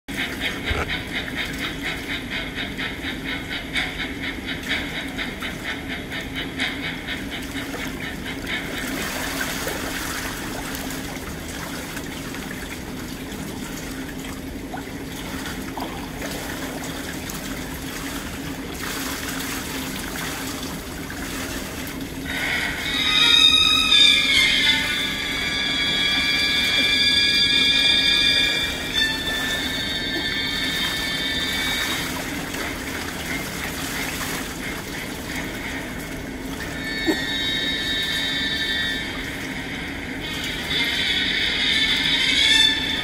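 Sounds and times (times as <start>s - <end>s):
pool water splashing and lapping: 0.1s - 43.0s
steady low hum: 0.1s - 43.0s.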